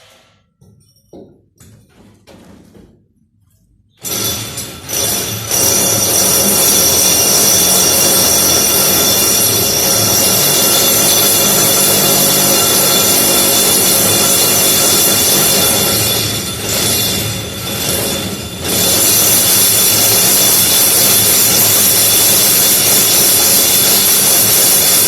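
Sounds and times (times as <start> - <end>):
power drill boring into masonry: 4.0 - 25.0.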